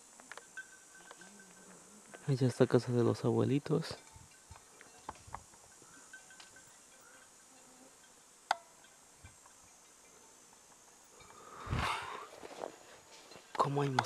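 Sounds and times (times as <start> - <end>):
faint insects buzzing: 0.0 - 14.0.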